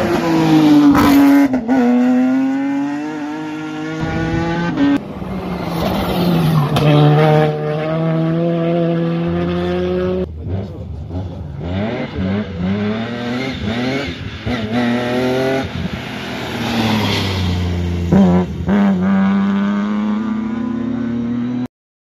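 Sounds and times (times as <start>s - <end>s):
rally car accelerating past: 0.0s - 21.7s.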